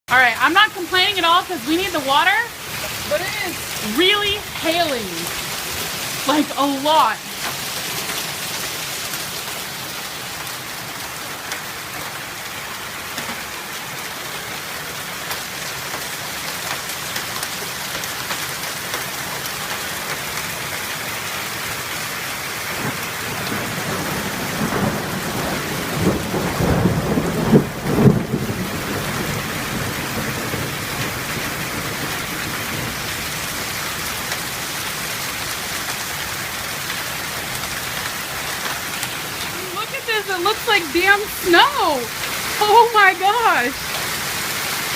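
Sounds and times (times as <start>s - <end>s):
hail and rain pelting down: 0.1s - 44.9s.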